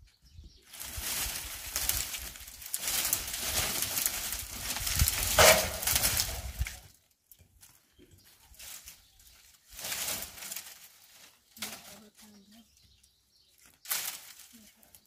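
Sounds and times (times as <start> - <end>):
dry branches rustling and crackling: 0.6 - 15.0.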